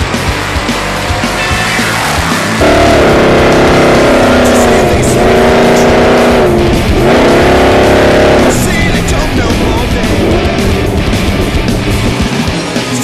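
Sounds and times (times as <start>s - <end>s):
truck engine revving through gears: 0.0s - 13.0s.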